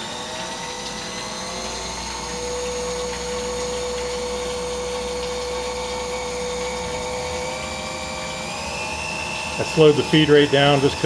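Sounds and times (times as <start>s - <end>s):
coolant splashing: 0.0s - 11.0s
milling machine spindle whine: 0.0s - 11.0s.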